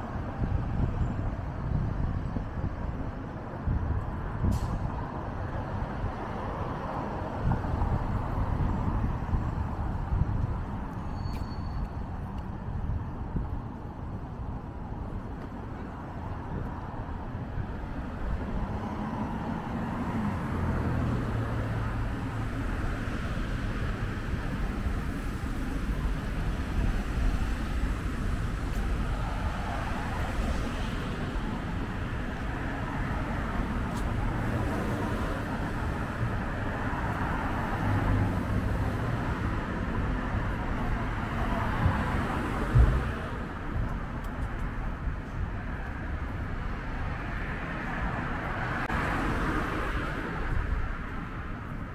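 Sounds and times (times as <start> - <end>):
cars passing on street: 0.0 - 51.9.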